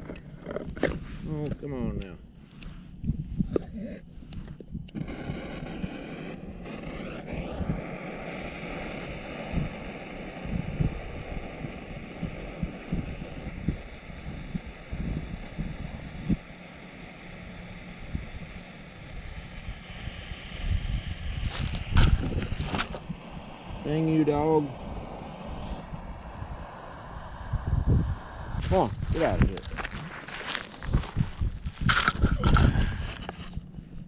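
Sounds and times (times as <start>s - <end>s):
wind buffeting microphone: 3.0s - 16.5s, 18.0s - 34.0s.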